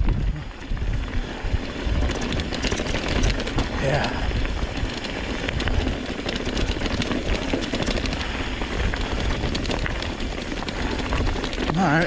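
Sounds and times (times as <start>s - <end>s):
bike clicks and rattles: 0.0s - 12.0s
tyre noise on dirt: 0.0s - 12.0s
wind noise on microphone: 0.0s - 12.0s.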